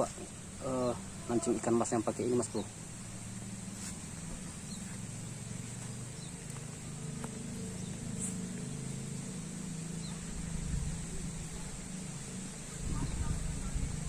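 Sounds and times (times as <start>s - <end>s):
faint chirps: 0.0s - 14.0s
high-pitched insect drone: 0.0s - 14.0s
low motor hum: 0.0s - 14.0s.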